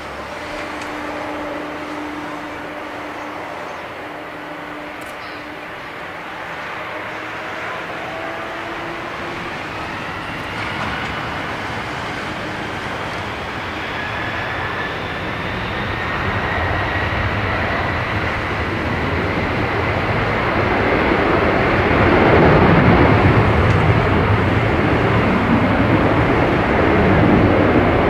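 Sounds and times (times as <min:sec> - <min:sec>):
high fan whine: 0:00.0 - 0:28.0
jet engine roar: 0:00.0 - 0:28.0.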